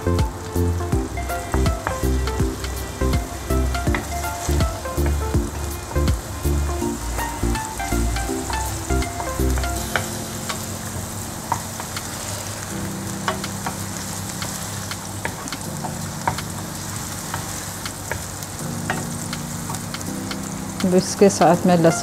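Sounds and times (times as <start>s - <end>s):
onions sizzling in oil: 0.0s - 22.0s
wooden spatula stirring in pan: 1.2s - 22.0s.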